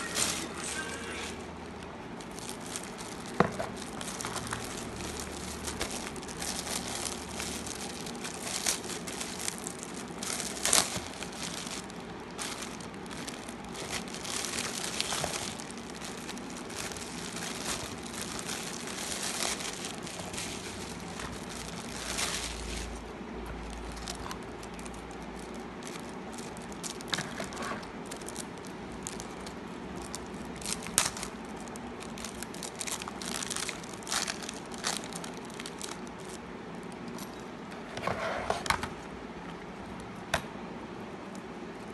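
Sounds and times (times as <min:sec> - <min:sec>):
plastic bags crinkling: 0:00.0 - 0:37.6.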